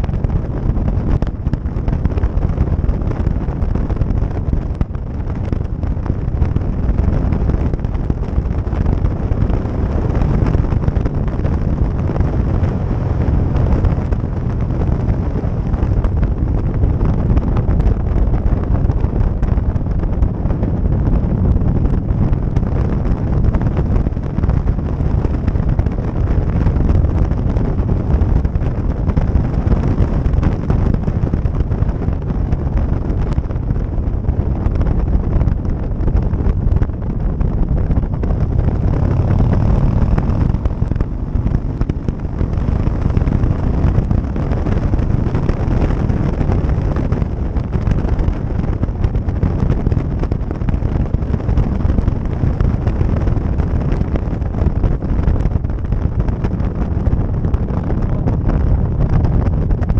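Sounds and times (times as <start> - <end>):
motorcycle engine: 0.0 - 59.9
road noise: 0.0 - 59.9
wind buffeting microphone: 0.0 - 59.9.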